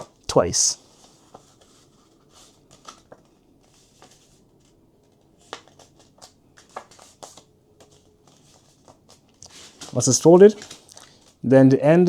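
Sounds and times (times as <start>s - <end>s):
paper folding and crackling: 0.0s - 11.4s.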